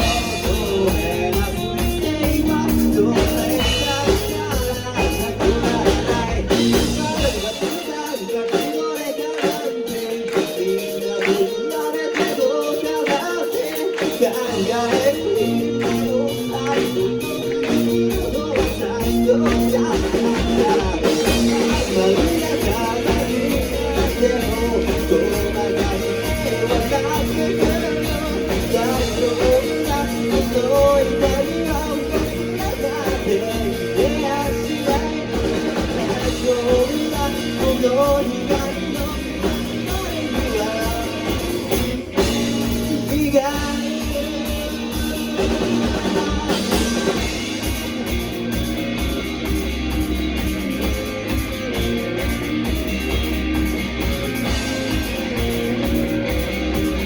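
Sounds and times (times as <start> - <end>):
person singing: 0.0 - 49.6
rock band playing: 0.0 - 57.0.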